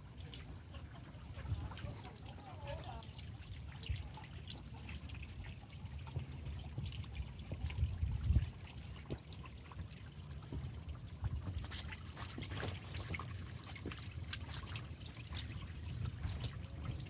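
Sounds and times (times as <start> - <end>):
water dripping into basin: 0.0 - 17.0
water fountain trickling: 0.0 - 17.0.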